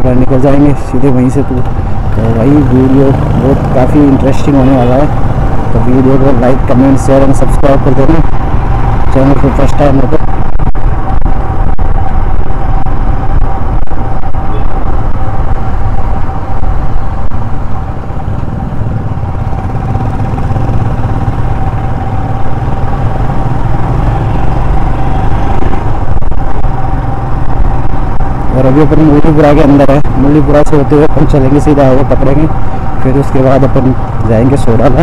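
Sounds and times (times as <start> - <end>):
motorcycle engine whine: 0.0 - 35.0
wind rumble on microphone: 0.0 - 35.0.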